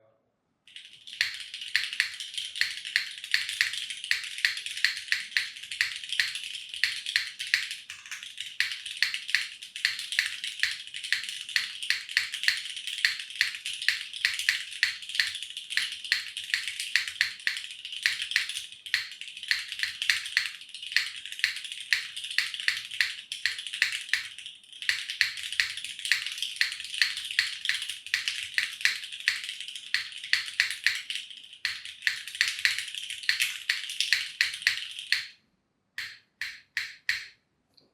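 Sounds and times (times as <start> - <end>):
fast typing on mechanical keyboard: 0.7 - 35.3.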